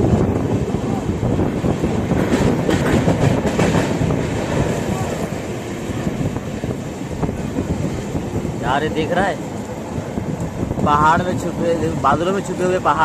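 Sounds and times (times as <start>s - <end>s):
rail joint clacks: 0.0s - 13.0s
train wheels rumbling on rails: 0.0s - 13.0s.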